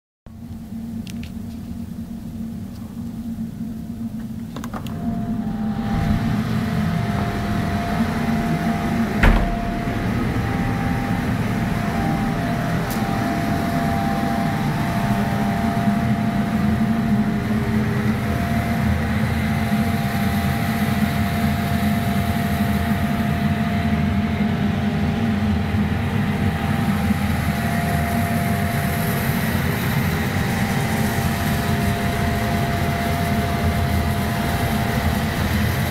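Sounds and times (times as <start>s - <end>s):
faint steady whine: 0.3s - 35.9s
gas heater fan and burner: 0.3s - 35.9s.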